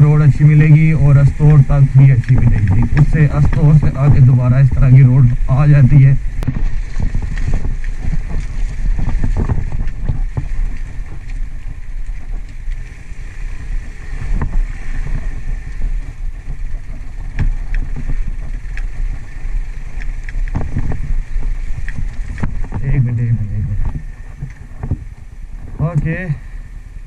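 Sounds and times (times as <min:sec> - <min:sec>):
wind on microphone: 0:00.0 - 0:27.0.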